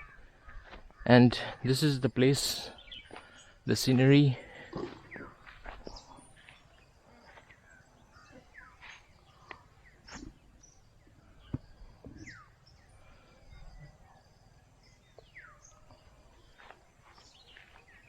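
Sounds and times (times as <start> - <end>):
birds chirping and whistling: 0.0 - 1.0, 2.3 - 18.0.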